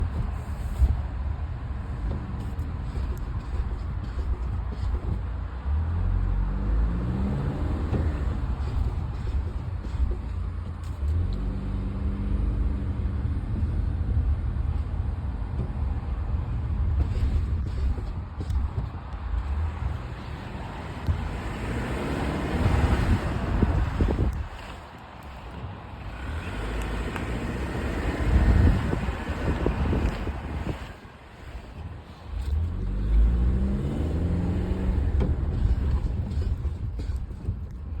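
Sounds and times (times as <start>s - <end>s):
car engine low rumble: 0.0s - 38.0s.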